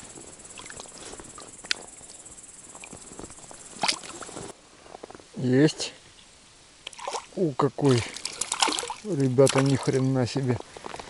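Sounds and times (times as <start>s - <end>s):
insects chirping: 0.0s - 4.6s, 5.3s - 11.0s.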